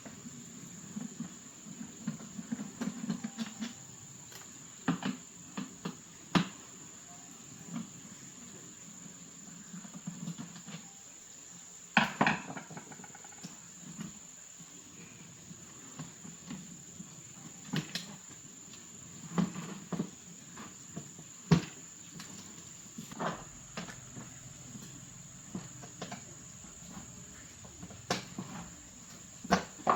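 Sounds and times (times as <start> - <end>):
crickets droning: 0.0 - 29.9.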